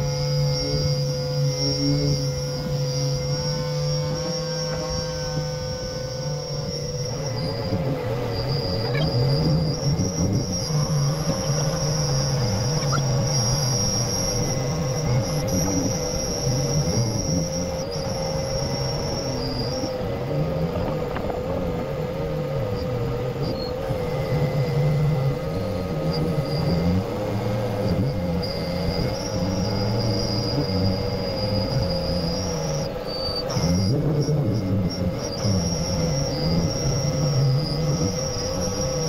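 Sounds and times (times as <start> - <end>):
air sander whining: 0.0 - 39.0.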